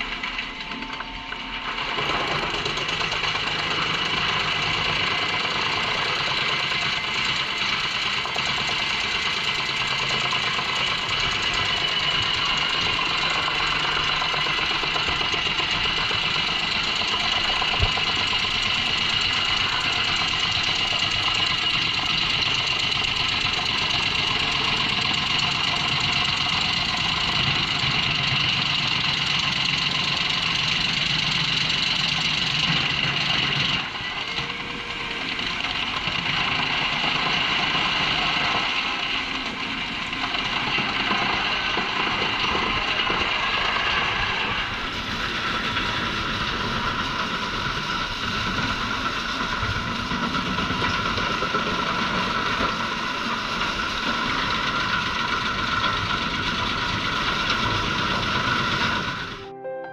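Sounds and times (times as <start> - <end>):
truck engine rumble: 0.0 - 59.4
drum chipper whining: 0.0 - 59.6.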